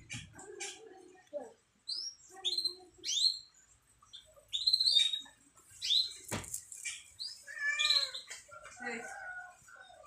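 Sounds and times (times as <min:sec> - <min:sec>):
canaries chirping: 0:00.0 - 0:10.0.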